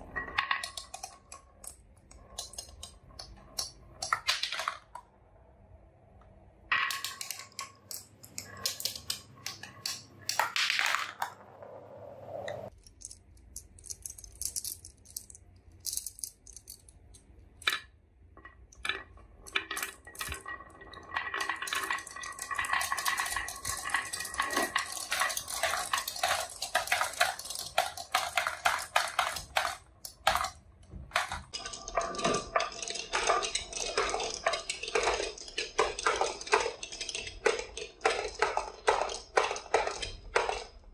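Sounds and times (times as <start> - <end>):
glass marbles clicking on wooden track: 0.0 - 5.0, 6.7 - 11.5, 12.7 - 40.9.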